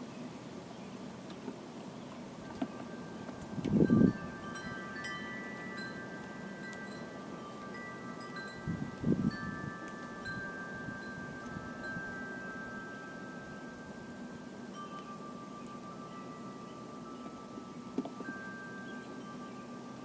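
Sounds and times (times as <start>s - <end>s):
wind chimes ringing: 2.3s - 20.0s.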